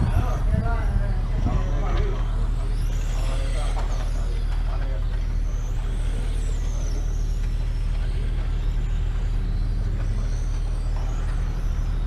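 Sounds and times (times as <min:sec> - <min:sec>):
racing motorcycle engines revving: 0:00.0 - 0:12.0
steady low drone: 0:00.0 - 0:12.0.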